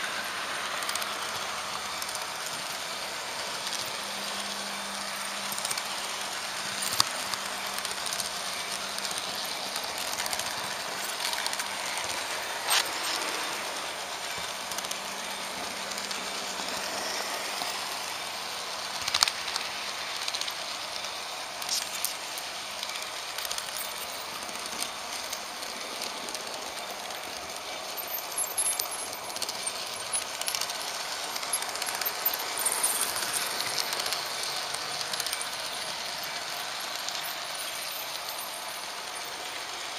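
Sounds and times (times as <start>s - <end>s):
model train wheels rattling: 0.0s - 39.9s.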